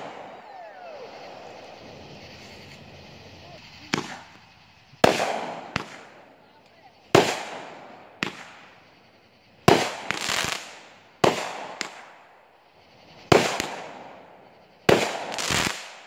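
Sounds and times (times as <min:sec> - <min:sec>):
firework bangs: 0:00.0 - 0:16.0
firework crackles: 0:00.0 - 0:16.0.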